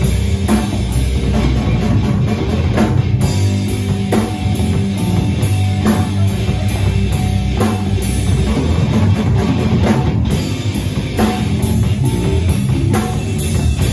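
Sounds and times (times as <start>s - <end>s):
live rock band: 0.0s - 13.9s.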